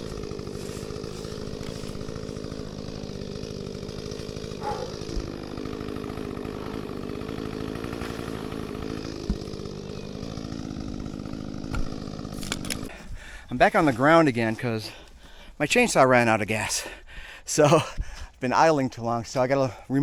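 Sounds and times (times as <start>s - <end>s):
chainsaw idling: 0.0s - 18.0s.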